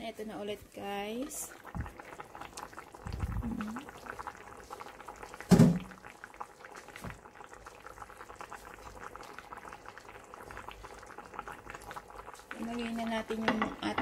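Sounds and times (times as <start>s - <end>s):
liquid simmering with crackling pops: 0.1s - 14.0s.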